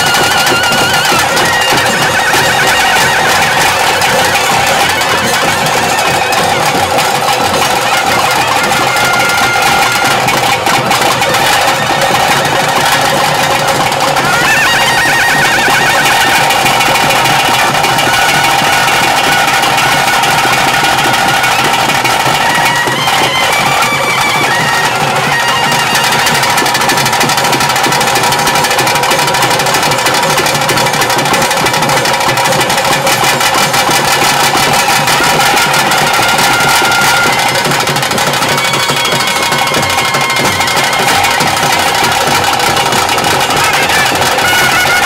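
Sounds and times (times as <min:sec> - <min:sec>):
fast drumming: 0:00.0 - 0:45.0.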